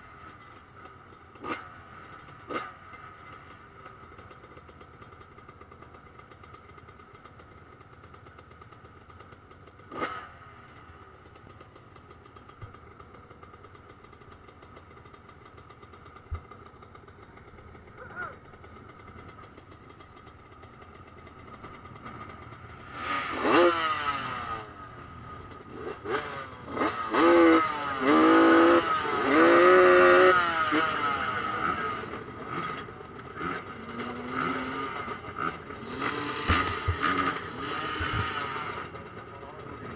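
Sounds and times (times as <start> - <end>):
motocross motorcycles revving: 0.0 - 39.9.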